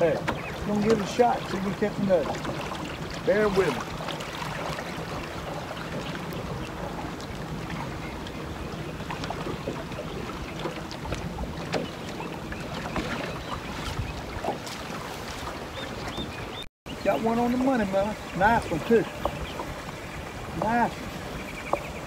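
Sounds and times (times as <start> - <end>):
water lapping at boat: 0.0 - 22.0
wind: 0.0 - 22.0.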